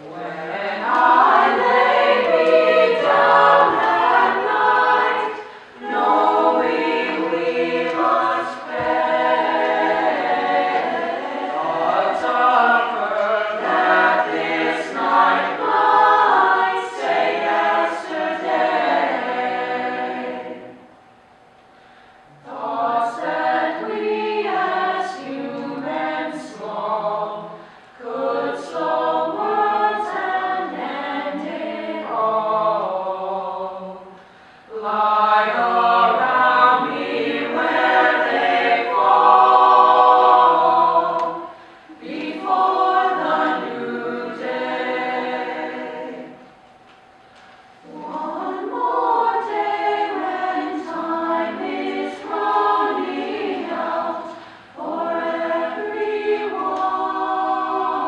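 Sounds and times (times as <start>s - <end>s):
choir singing unaccompanied: 0.0s - 21.0s, 22.3s - 58.0s.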